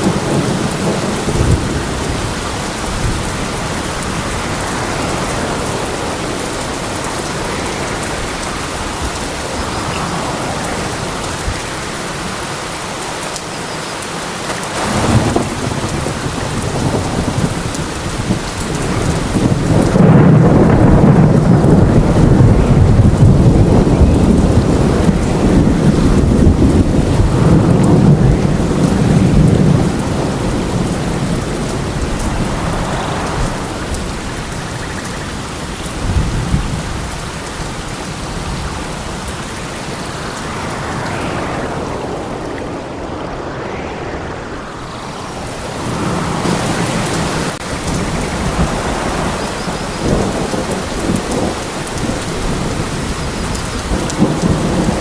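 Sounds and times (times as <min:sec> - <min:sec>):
thunder rolling: 0:00.0 - 0:12.5, 0:14.4 - 0:55.0
steady rain falling: 0:00.0 - 0:55.0.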